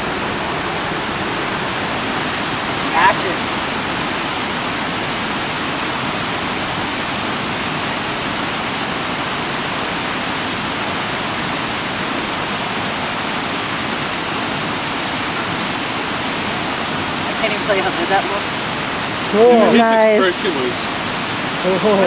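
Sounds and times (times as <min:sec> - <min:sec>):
waterfall rushing over rocks: 0:00.0 - 0:22.0.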